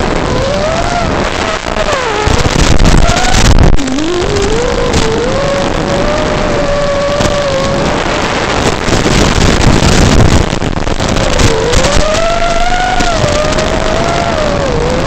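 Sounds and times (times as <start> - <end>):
drone motors whining: 0.0 - 15.0
rough noise: 0.0 - 15.0.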